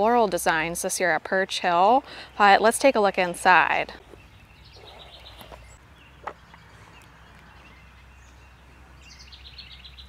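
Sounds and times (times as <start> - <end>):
distant birds chirping: 1.8 - 10.0.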